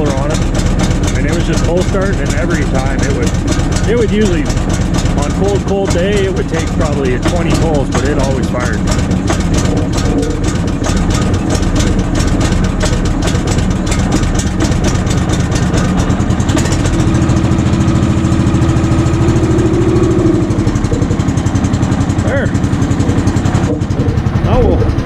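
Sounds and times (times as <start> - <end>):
gasoline engine running: 0.0 - 25.0.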